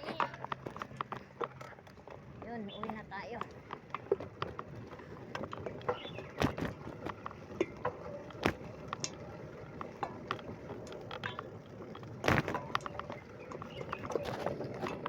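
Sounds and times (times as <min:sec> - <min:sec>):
bicycle parts clicking and rattling: 0:00.0 - 0:15.0.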